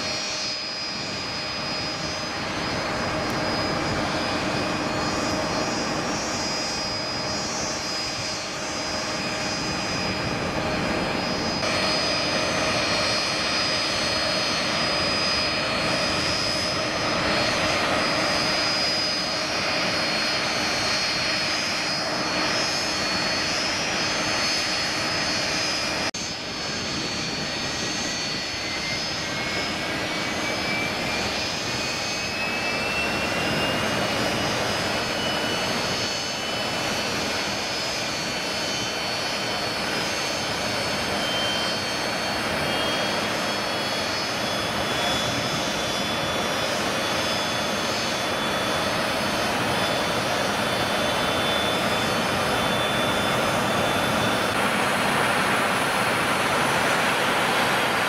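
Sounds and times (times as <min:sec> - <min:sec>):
turbine engine spooling up: 0:00.0 - 0:58.0.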